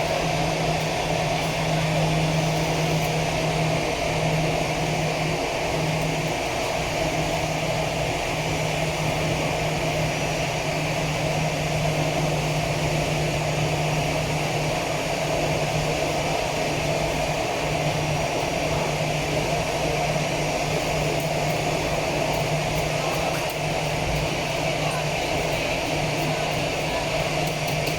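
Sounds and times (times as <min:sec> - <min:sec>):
aircraft engine noise: 0:00.0 - 0:27.9.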